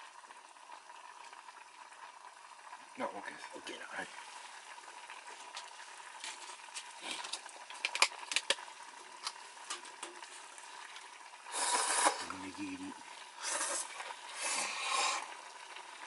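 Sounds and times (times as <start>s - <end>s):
sizzling: 0.0s - 16.0s
soup bubbling on stove: 0.0s - 16.0s.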